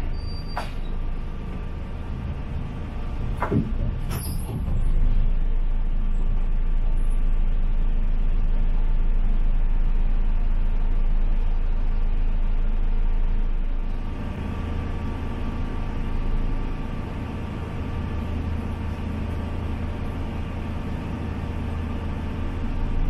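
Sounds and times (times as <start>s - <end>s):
diesel train rumble and hum: 0.0s - 23.0s.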